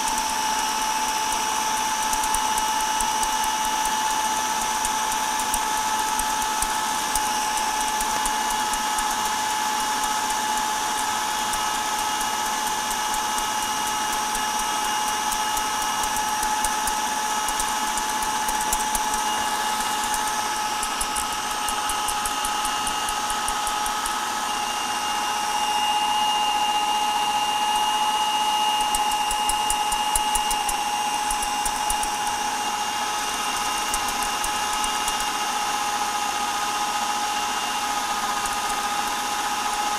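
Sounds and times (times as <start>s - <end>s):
food processor motor whine: 0.0s - 39.9s.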